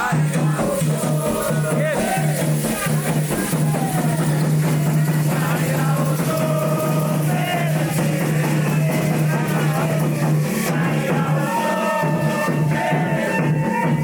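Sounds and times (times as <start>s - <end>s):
percussion and rattles: 0.0s - 14.0s
voices singing together: 0.0s - 14.0s.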